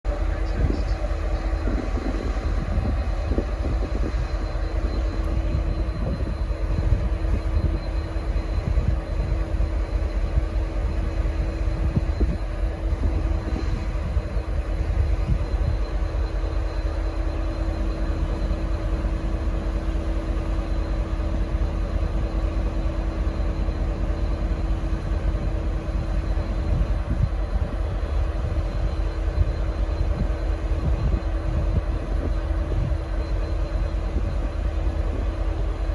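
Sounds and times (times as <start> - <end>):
diesel locomotive idling: 0.1 - 35.9.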